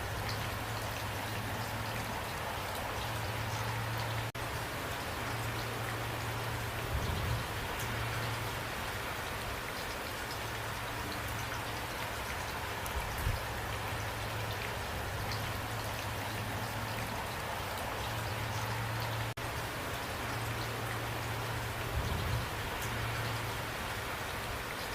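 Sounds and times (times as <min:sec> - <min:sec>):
rain falling: 0:00.0 - 0:24.9.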